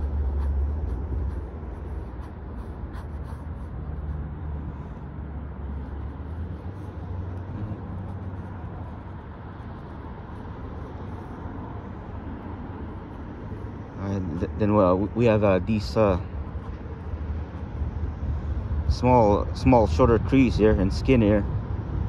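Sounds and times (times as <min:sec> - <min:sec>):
pen scratching on paper: 0:00.0 - 0:17.9
low outdoor rumble: 0:00.0 - 0:22.0.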